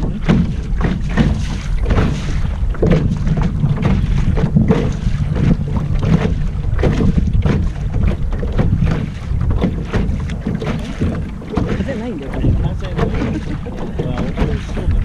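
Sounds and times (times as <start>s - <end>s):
water washing around hull: 0.0s - 15.0s
wind buffeting microphone: 0.0s - 15.0s.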